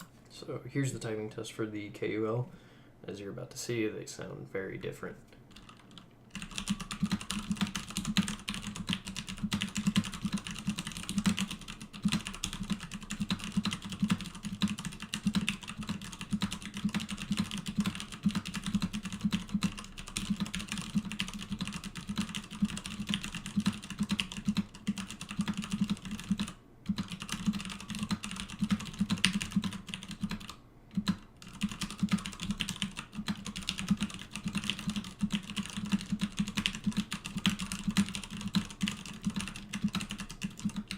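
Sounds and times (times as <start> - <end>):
fast mechanical keyboard typing: 5.5 - 40.9.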